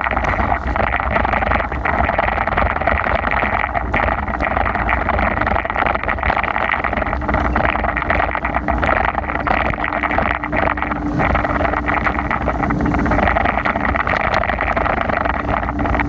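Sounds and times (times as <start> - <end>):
faint steady hum: 0.0 - 16.0
low rumble: 0.0 - 16.0.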